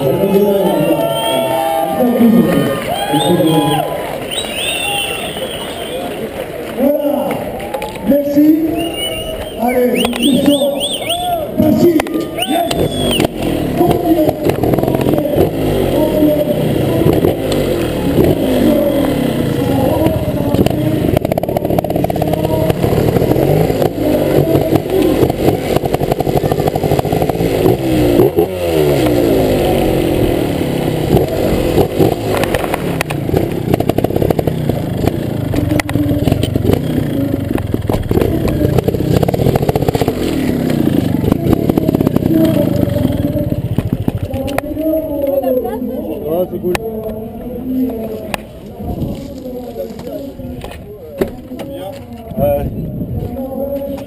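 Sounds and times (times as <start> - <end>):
motorcycle engine revving: 8.1 - 54.0.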